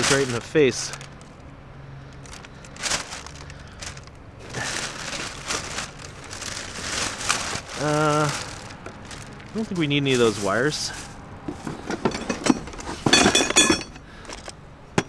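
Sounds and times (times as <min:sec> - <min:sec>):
loose items clattering: 0:00.0 - 0:01.3, 0:02.2 - 0:14.5
hands rummaging through junk: 0:00.0 - 0:01.4, 0:02.1 - 0:14.6.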